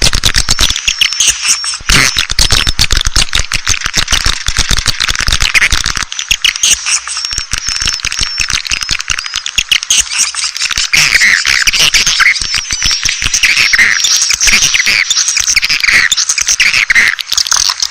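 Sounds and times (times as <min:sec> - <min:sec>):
swiftlets chirping and twittering: 0:00.0 - 0:17.9.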